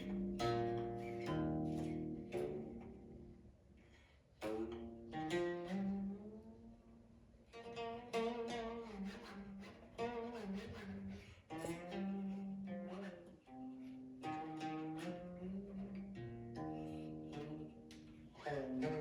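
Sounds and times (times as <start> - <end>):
plucked zither notes: 0.0 - 3.5, 4.4 - 6.7, 7.5 - 19.0.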